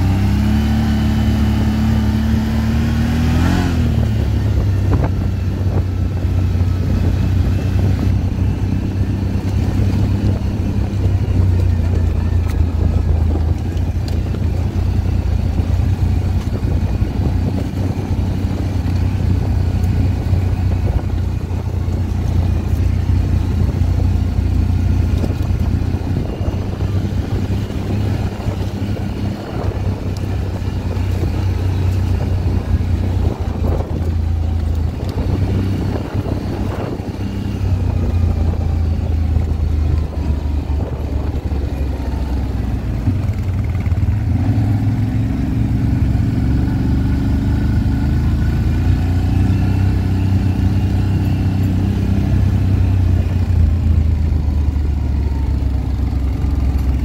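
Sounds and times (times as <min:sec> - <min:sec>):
atv engine droning: 0:00.0 - 0:57.0.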